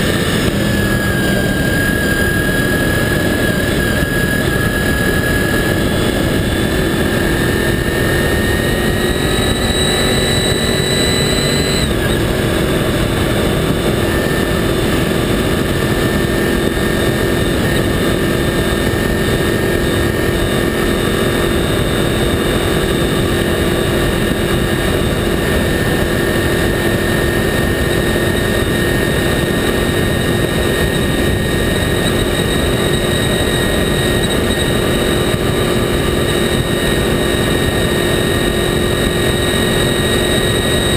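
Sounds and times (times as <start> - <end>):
motorcycle engine at speed: 0.0 - 40.9
wind noise: 0.0 - 40.9.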